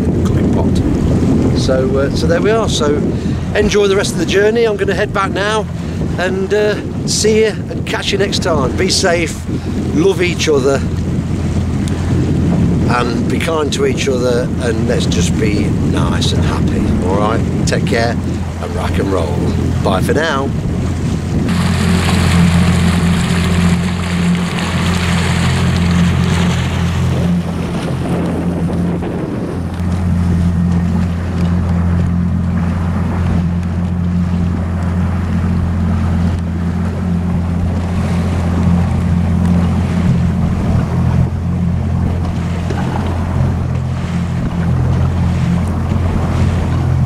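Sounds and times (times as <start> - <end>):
motorboat engine droning: 0.0 - 47.0
water rushing past: 0.0 - 47.0
wind buffeting microphone: 0.0 - 47.0.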